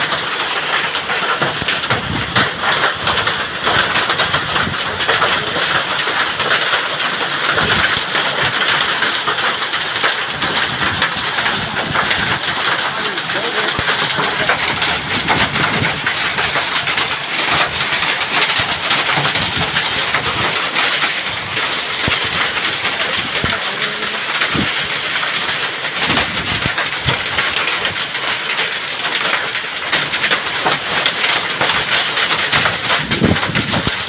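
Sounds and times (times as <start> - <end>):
hail and heavy rain hissing: 0.0 - 34.0
hailstones ticking: 0.0 - 34.0.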